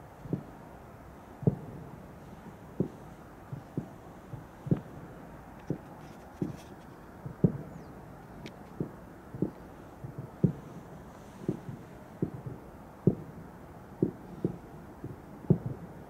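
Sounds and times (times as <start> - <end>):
distant fireworks thumps: 0.0 - 16.0.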